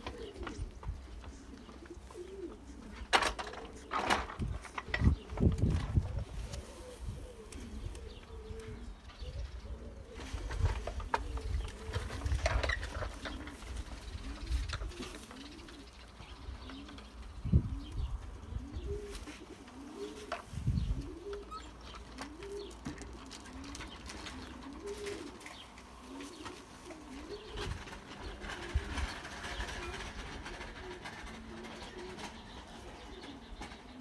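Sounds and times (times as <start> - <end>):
pigeons cooing: 0.0 - 34.0.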